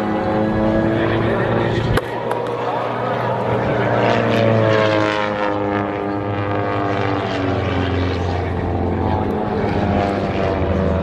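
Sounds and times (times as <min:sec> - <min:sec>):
propeller airplane flying past: 0:00.0 - 0:11.0.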